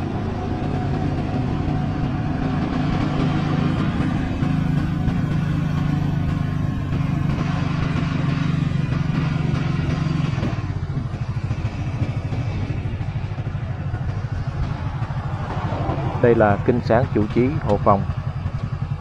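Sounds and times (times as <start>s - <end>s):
motor engines running: 0.0s - 19.0s.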